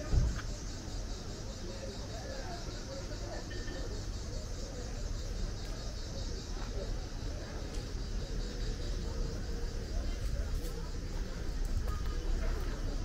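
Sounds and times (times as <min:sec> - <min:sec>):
street rumble: 0:00.0 - 0:13.0.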